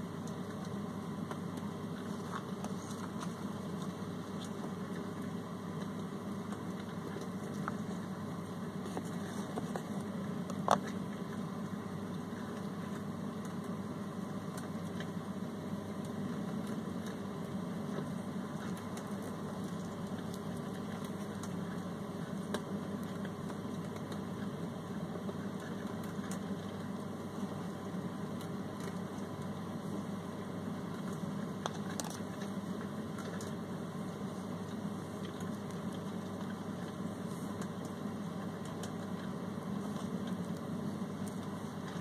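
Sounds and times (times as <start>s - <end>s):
low machine hum: 0.0s - 42.0s.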